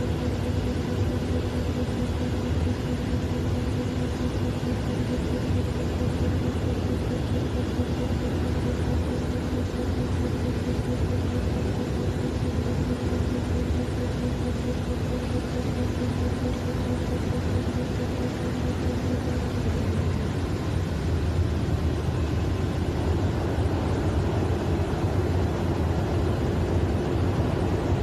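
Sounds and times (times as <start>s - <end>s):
industrial machinery low hum: 0.0s - 28.0s.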